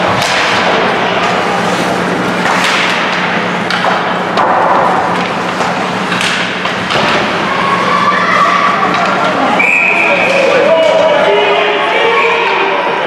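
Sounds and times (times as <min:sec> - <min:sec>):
sticks and puck clacking: 0:00.0 - 0:11.3.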